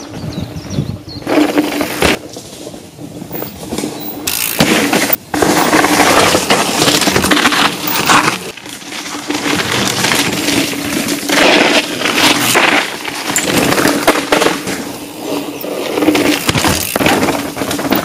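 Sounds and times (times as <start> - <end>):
bike tyres crunching on gravel: 1.2 - 18.0.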